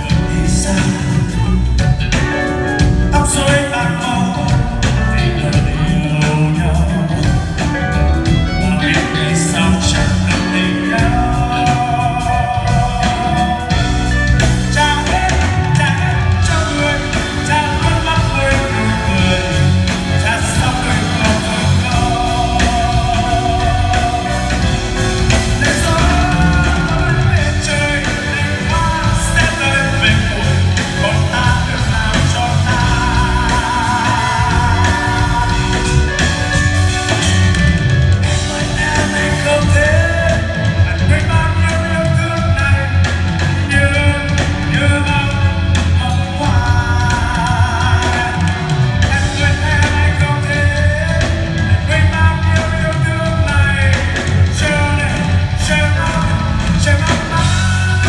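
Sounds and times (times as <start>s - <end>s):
man singing with vibrato: 0.0s - 58.0s
rock-pop band playing: 0.0s - 58.0s.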